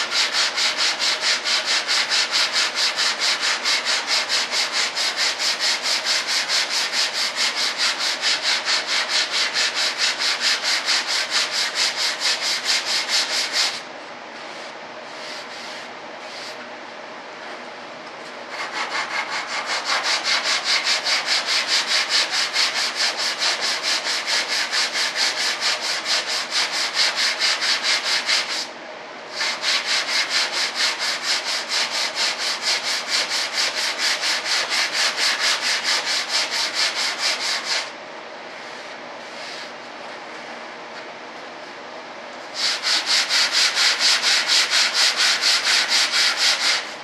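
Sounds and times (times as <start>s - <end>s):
sandpaper rubbing: 0.0s - 13.8s, 14.4s - 16.6s, 18.5s - 28.7s, 29.3s - 37.9s, 42.6s - 46.9s.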